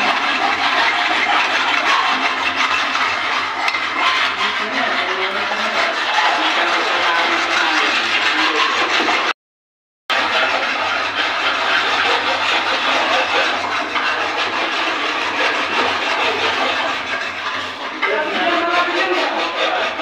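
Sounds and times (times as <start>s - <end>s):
hand files rasping on metal: 0.0s - 9.4s, 10.1s - 20.0s.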